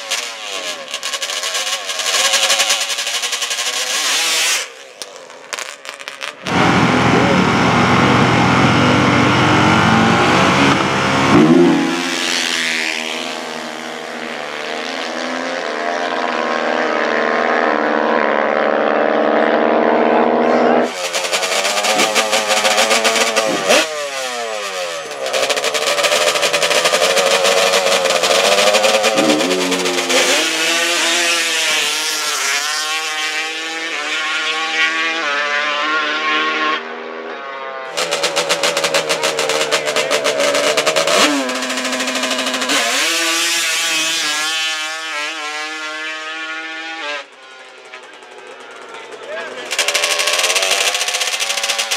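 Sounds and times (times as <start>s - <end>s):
harsh rapid-firing engine revving: 0.0s - 36.9s, 37.9s - 51.9s
atv engines revving: 0.0s - 37.1s, 37.8s - 51.9s.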